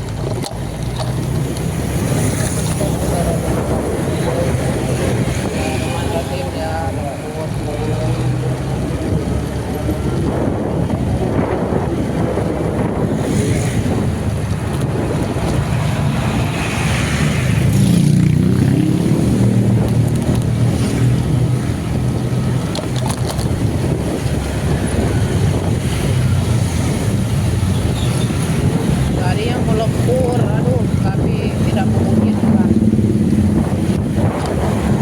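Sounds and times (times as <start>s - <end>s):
vehicle engine running: 0.0s - 35.0s
wind noise on microphone: 0.0s - 35.0s.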